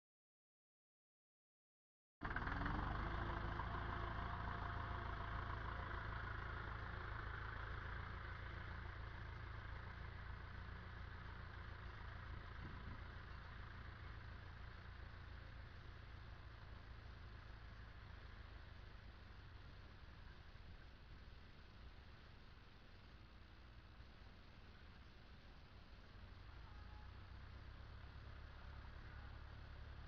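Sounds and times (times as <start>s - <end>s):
tractor engine running: 2.2s - 30.0s.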